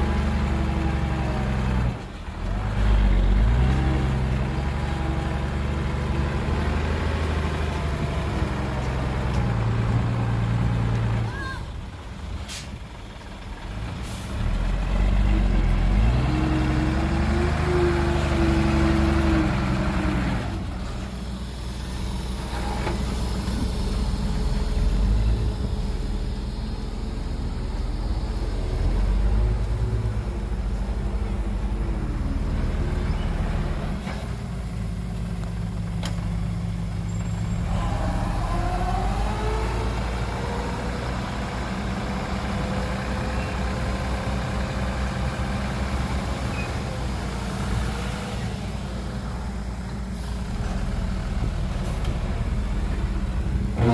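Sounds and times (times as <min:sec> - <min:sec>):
heavy diesel engines droning: 0:00.0 - 0:53.9.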